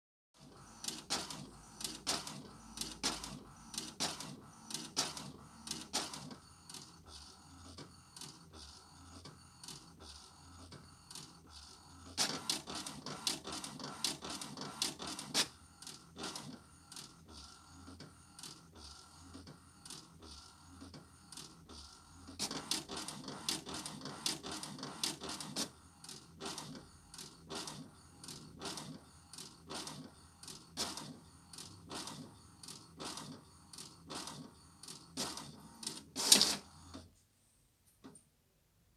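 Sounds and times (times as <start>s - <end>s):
inkjet printer clicks and whirrs: 0.4s - 37.1s.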